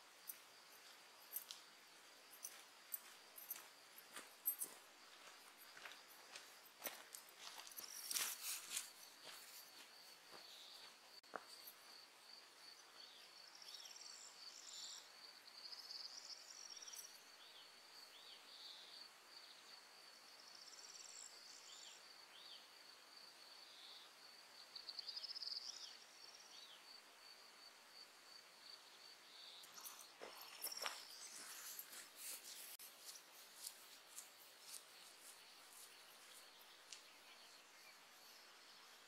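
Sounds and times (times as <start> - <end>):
cricket chirping: 0.0 - 39.0.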